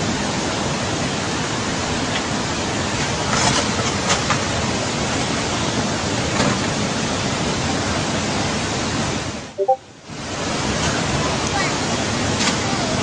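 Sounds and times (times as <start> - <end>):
heavy rain rushing: 0.0 - 13.0.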